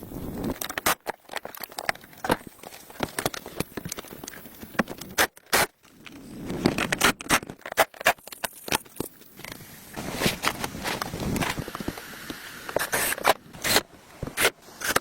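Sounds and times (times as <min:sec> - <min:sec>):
hands tapping and scraping materials: 0:00.5 - 0:15.0.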